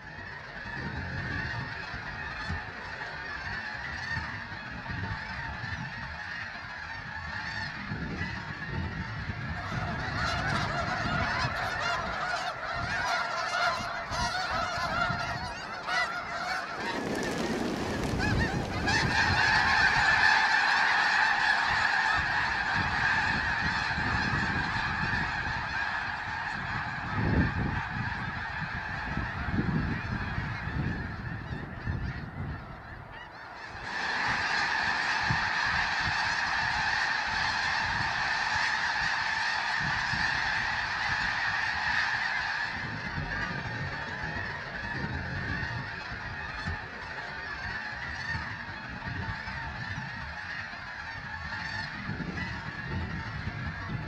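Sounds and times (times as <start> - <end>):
flock of geese honking: 0.0 - 54.0.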